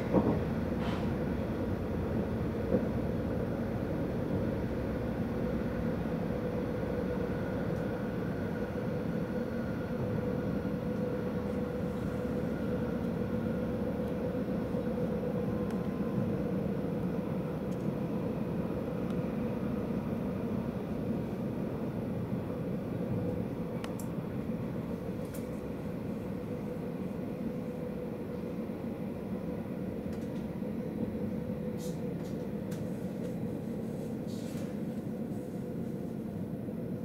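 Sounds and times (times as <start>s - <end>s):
constant hum: 0.0s - 37.0s
train cabin rumble: 0.0s - 37.0s.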